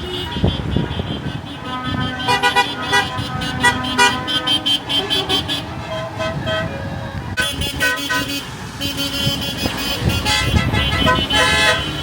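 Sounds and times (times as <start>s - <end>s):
lorry engines running: 0.0s - 12.0s
truck horns tooting: 0.0s - 12.0s.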